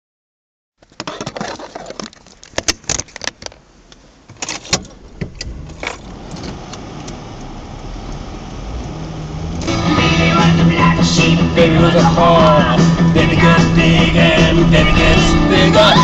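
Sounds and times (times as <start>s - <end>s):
low car engine hum: 1.7s - 16.0s.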